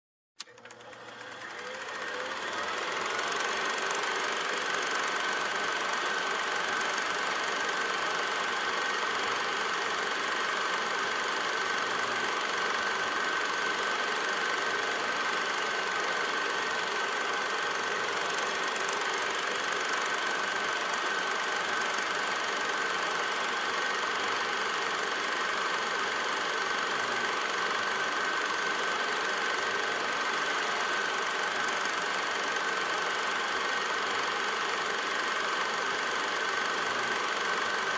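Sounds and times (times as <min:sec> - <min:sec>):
film projector whirring: 0:00.4 - 0:37.9.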